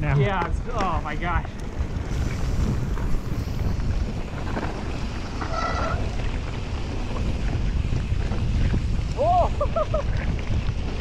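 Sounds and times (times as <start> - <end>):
bike tires rumbling on dirt: 0.0 - 11.0
wind buffeting microphone: 0.0 - 11.0.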